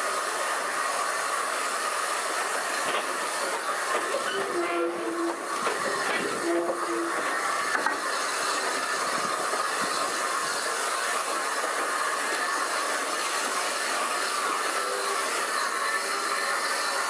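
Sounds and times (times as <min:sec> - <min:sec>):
steam hiss: 0:00.0 - 0:17.0
train mechanical rattle: 0:01.6 - 0:17.0.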